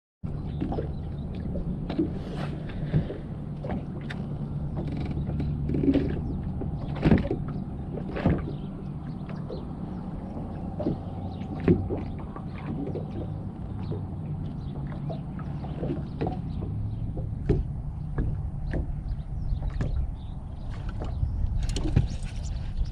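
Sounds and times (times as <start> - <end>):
small waves slapping boat hull: 0.3 - 22.9.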